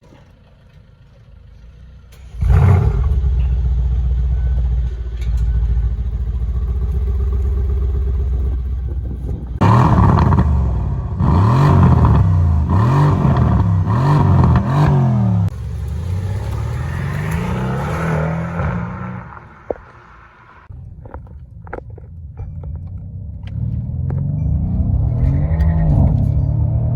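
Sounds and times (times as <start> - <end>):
car engine starting and revving: 1.3 - 20.7, 22.9 - 26.9.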